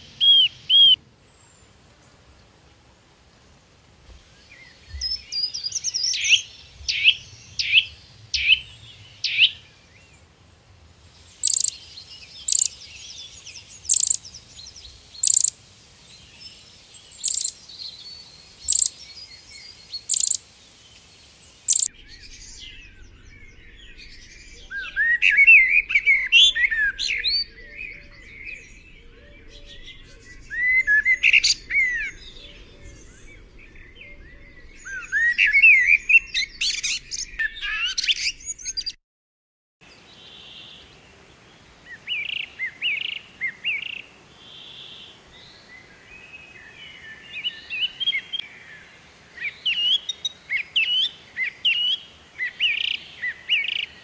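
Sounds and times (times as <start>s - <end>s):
songbirds calling: 0.0s - 2.6s, 3.5s - 39.0s, 39.8s - 54.0s.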